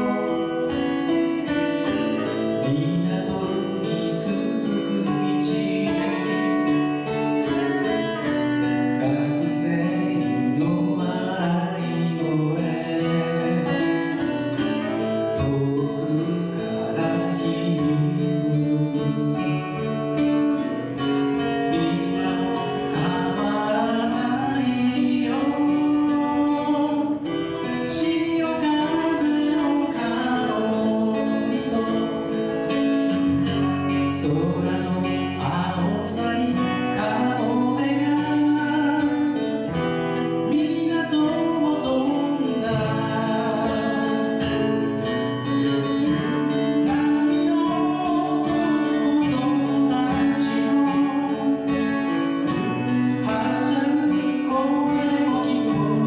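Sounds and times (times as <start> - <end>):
acoustic guitars strummed: 0.0 - 56.0
person singing: 0.0 - 56.0.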